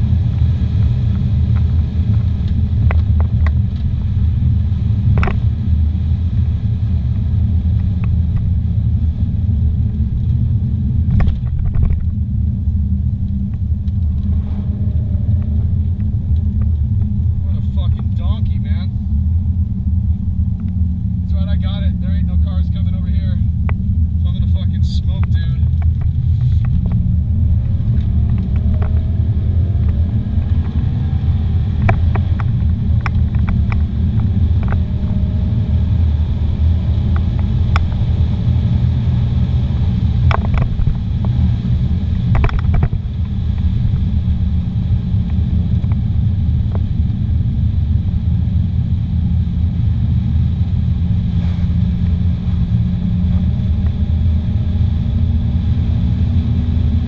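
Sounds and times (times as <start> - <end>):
car interior engine and tyre rumble: 0.0 - 57.0.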